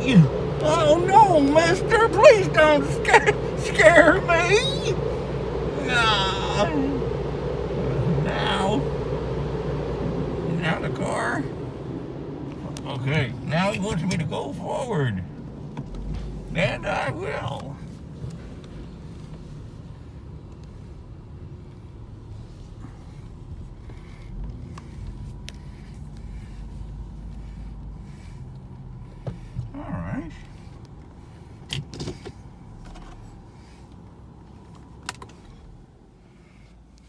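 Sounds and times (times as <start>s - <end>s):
car interior low rumble: 0.0s - 37.0s.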